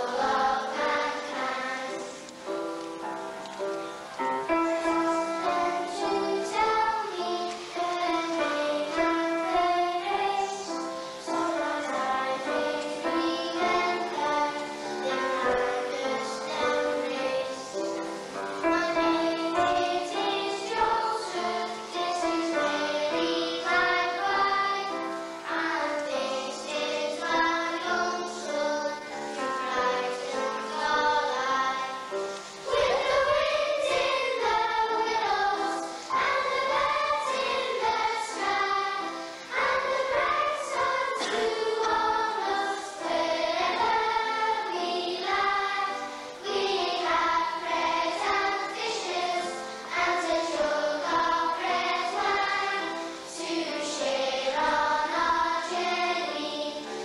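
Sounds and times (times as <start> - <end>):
children's choir singing a hymn: 0.0 - 57.0.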